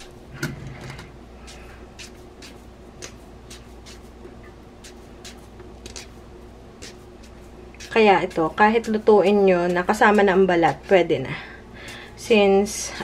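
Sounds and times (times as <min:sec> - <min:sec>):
steady low hum: 0:00.0 - 0:13.0
potato being scrubbed: 0:01.4 - 0:12.9.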